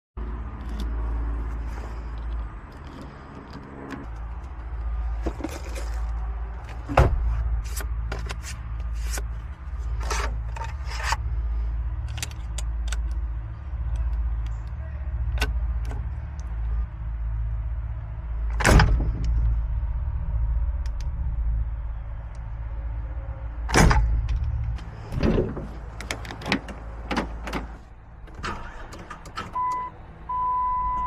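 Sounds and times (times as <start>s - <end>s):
low vehicle hum: 0.2s - 31.0s.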